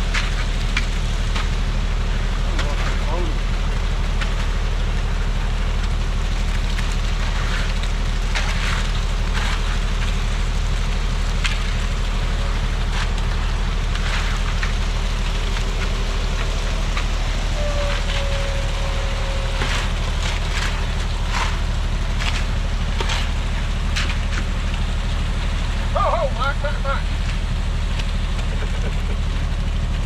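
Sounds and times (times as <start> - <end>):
heavy engine running: 0.0 - 30.0.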